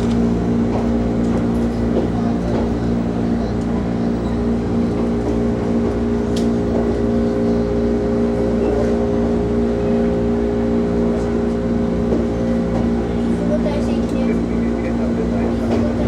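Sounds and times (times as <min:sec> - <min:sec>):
multi-tone train hum: 0:00.0 - 0:16.0
train car rumble: 0:00.0 - 0:16.0.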